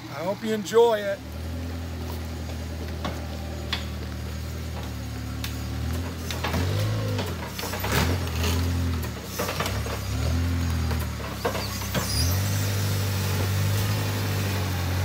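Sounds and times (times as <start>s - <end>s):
tractor engine revving: 0.0s - 15.0s.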